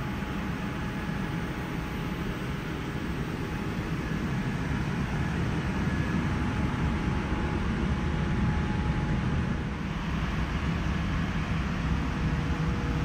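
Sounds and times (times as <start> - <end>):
cabin air system rumble and hiss: 0.0 - 13.0.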